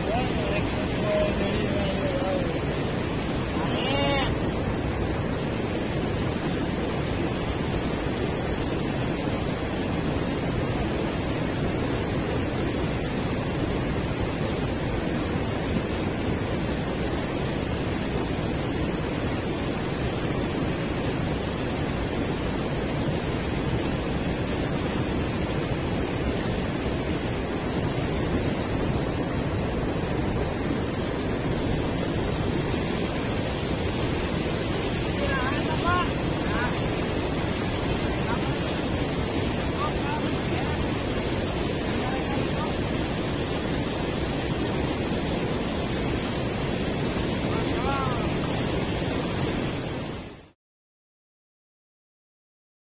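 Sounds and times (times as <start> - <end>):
river water pouring over weir: 0.0 - 50.6.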